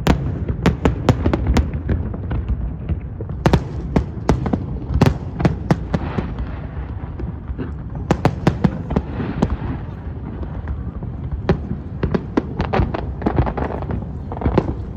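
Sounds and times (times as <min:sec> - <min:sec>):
distant fireworks rumble: 0:00.0 - 0:14.9
fireworks bangs and cracks: 0:00.0 - 0:14.9.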